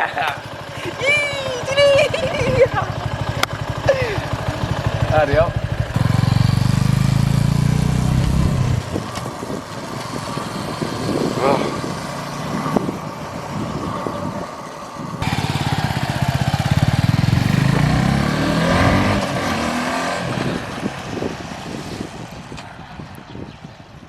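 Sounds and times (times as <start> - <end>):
motorcycle engine accelerating: 0.4 - 21.6.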